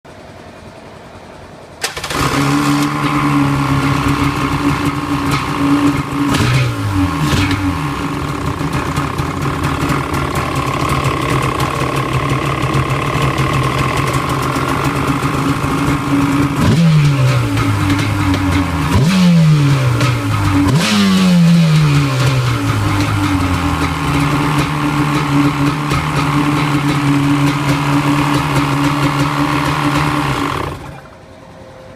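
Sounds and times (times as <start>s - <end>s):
engine idling with throttle blips: 0.1s - 31.9s.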